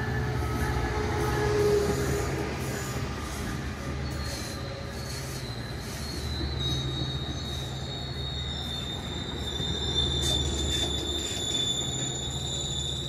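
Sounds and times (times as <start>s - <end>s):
train rumbling past: 0.0s - 13.0s
train wheels squealing: 0.0s - 13.0s.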